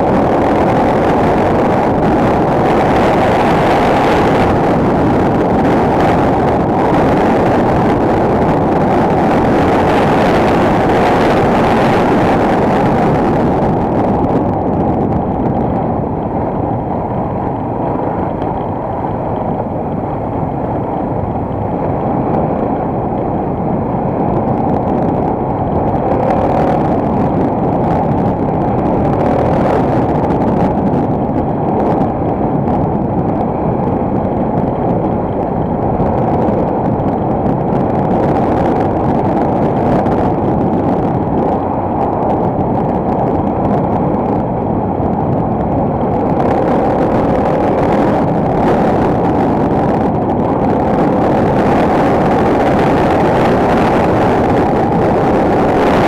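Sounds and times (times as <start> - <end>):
motorcycle engine drone: 0.0 - 56.0
wind rushing over microphone: 0.0 - 56.0.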